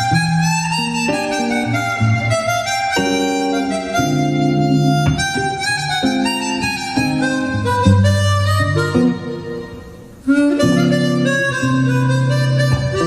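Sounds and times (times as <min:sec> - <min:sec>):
electric guitar chords: 0:00.0 - 0:13.0
harmonica jazz solo: 0:00.0 - 0:13.0.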